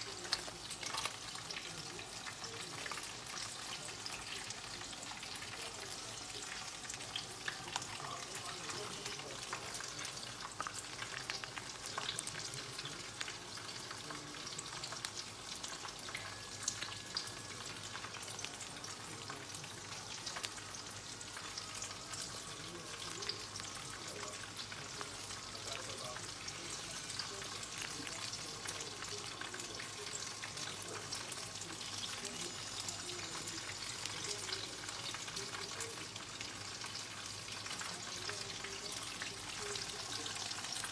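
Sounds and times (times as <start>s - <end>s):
oil sizzling in fryer: 0.0s - 40.9s.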